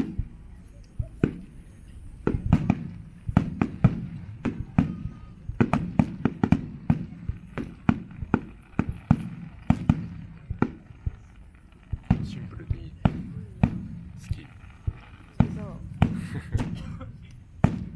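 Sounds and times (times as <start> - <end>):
fireworks shells bursting: 0.0 - 17.9.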